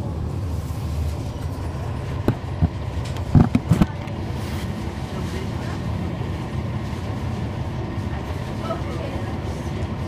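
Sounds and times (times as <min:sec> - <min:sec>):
bus diesel engine humming: 0:00.0 - 0:10.0.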